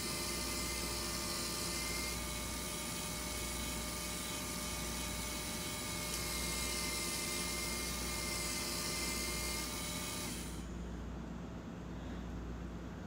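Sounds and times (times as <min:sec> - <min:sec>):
belt grinder low hum: 0:00.0 - 0:10.7
belt grinder whining and grinding: 0:00.0 - 0:10.7.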